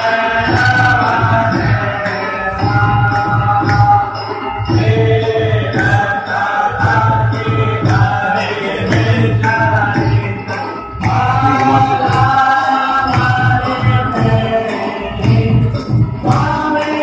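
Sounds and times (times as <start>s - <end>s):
percussion beat: 0.0s - 17.0s
voices singing devotional song: 0.0s - 17.0s.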